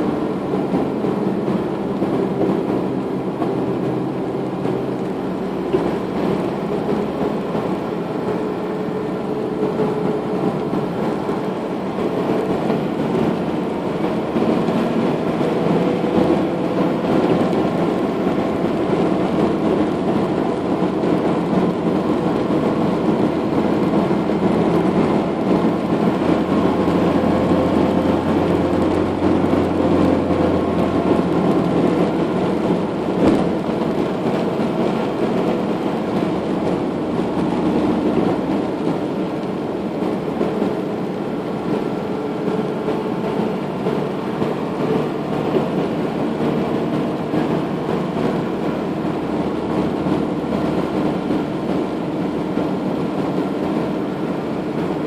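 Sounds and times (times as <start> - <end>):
road and engine noise in cabin: 0.0 - 55.0.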